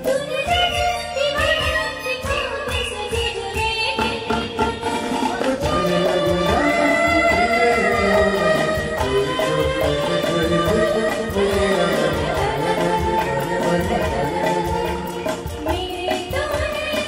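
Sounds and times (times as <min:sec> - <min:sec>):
hand percussion beat: 0:00.0 - 0:17.0
man and woman singing duet: 0:00.0 - 0:17.0.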